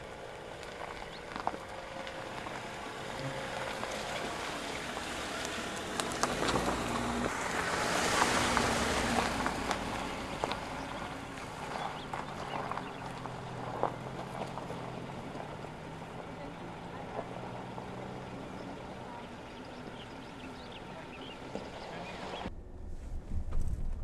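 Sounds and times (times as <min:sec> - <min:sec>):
stones crunching under tyres: 0:00.0 - 0:22.4
car driving past on gravel: 0:00.0 - 0:23.9.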